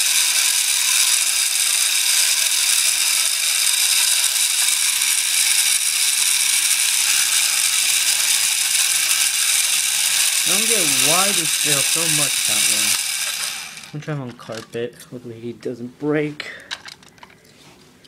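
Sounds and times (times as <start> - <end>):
toy robot motor whirring: 0.0 - 14.6.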